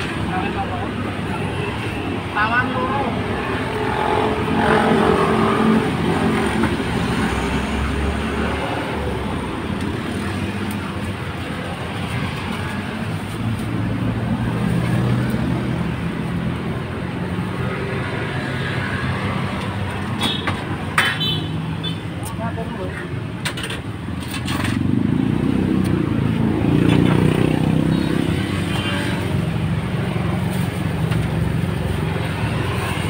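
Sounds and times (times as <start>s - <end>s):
car engines passing: 0.0s - 33.0s.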